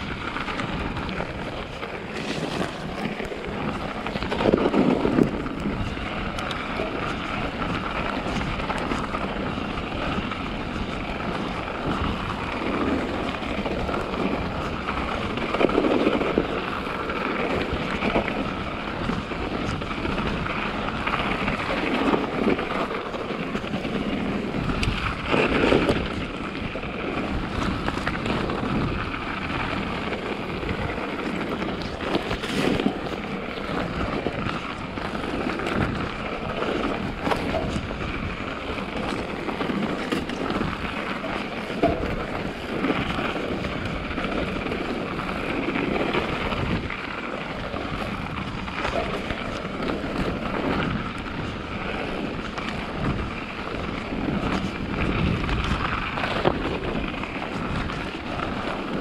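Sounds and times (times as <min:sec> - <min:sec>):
bike tyre noise: 0:00.0 - 0:59.0
wind noise on microphone: 0:00.0 - 0:59.0.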